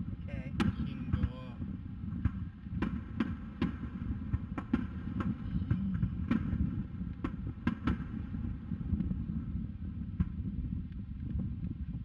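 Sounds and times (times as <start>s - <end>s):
distant fireworks bursting: 0.0s - 12.0s
steady low rumble: 0.0s - 12.0s.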